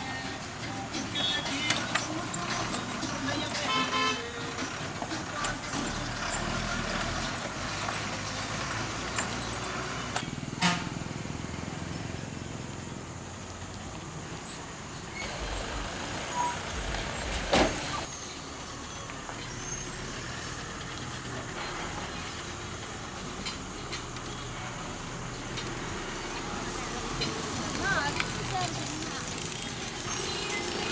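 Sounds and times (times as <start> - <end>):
heavy vehicle engines rumbling: 0.0 - 30.9.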